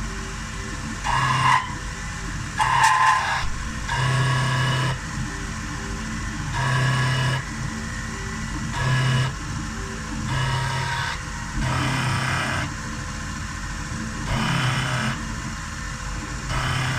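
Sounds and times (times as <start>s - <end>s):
machine hum: 0.0s - 16.9s
stepper motor whine: 0.0s - 16.9s.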